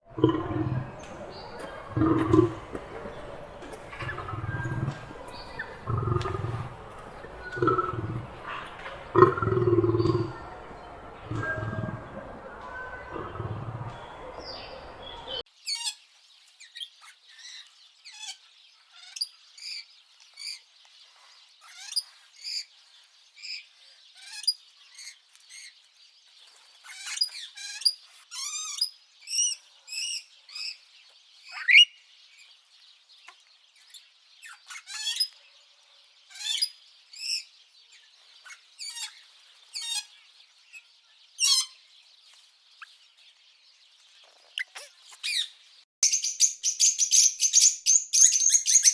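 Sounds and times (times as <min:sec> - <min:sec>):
birds chirping and singing: 0:00.1 - 0:35.4, 0:36.1 - 0:48.9.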